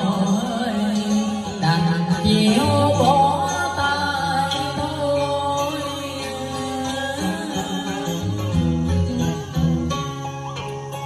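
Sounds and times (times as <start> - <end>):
man singing into a microphone: 0.0 - 10.4
karaoke backing track with bass: 0.0 - 11.0.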